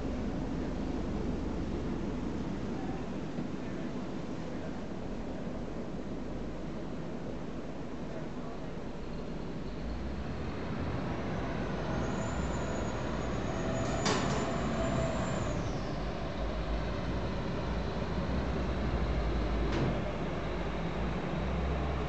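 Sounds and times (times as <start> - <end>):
ferry engines rumbling: 0.0 - 22.0.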